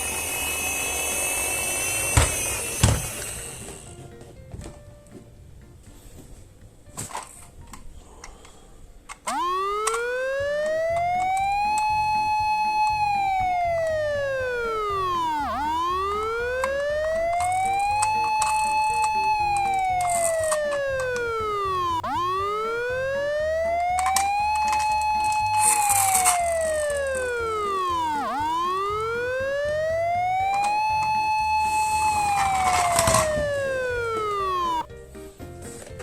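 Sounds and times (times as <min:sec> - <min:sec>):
emergency vehicle wail siren: 0:00.0 - 0:03.4, 0:09.3 - 0:34.9.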